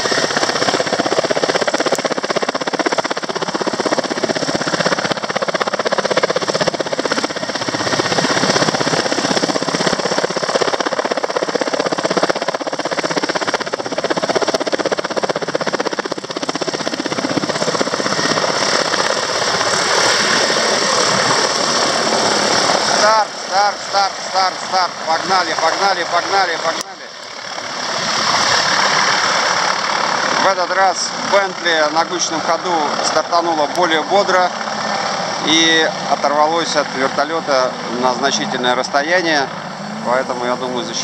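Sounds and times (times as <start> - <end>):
helicopter turbine and rotor noise: 0.0 - 41.0.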